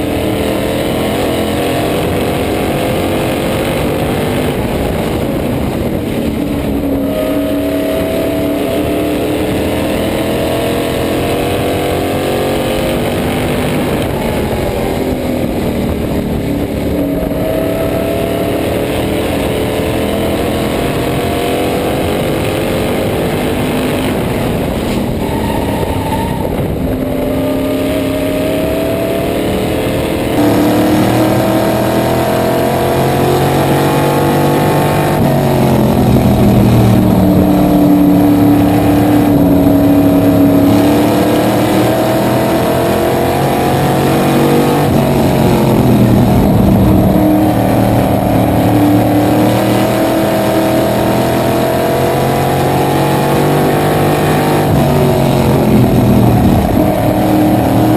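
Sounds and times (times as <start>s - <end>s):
race car engine revving: 0.0s - 57.9s.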